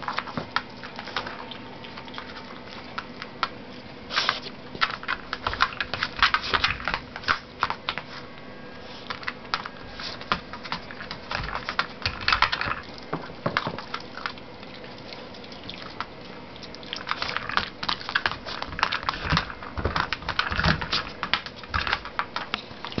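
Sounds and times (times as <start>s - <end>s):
dog claws clicking on floor: 0.0s - 8.3s, 9.0s - 23.0s.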